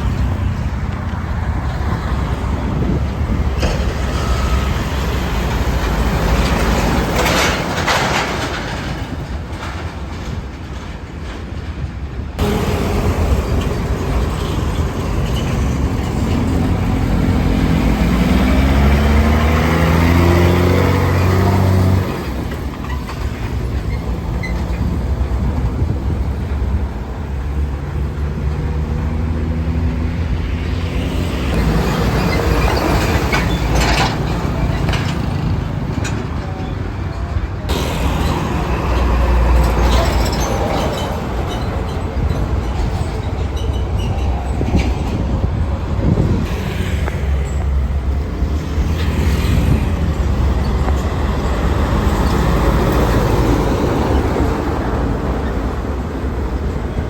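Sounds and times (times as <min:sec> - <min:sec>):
road traffic: 0:00.0 - 0:57.0.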